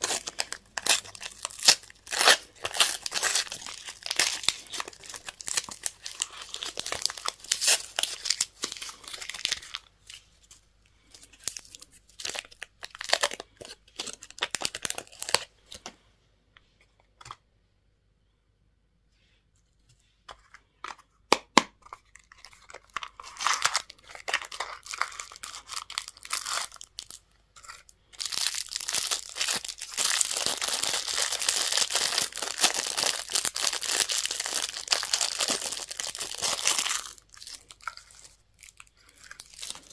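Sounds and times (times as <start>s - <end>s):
candy packaging crinkling: 0.0s - 15.9s, 21.6s - 39.9s.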